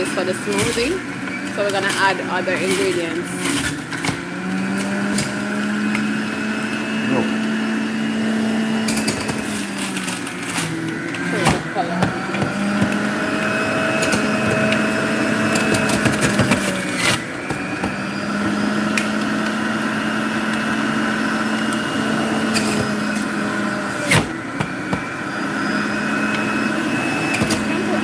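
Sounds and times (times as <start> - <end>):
juicer motor whine and hum: 0.0 - 28.0.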